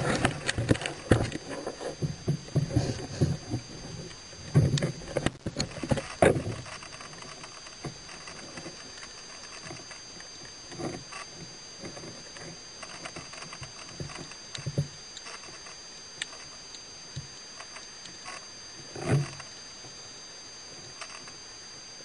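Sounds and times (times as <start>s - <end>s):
underwater clicks and crackles: 0.0s - 20.0s, 20.8s - 21.4s
steady high whines: 0.0s - 22.0s.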